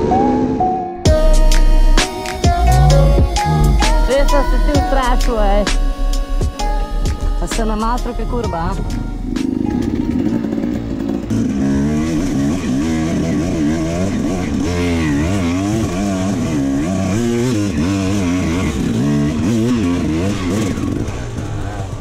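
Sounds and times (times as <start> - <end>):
dirt bike engines revving: 1.6 - 22.0.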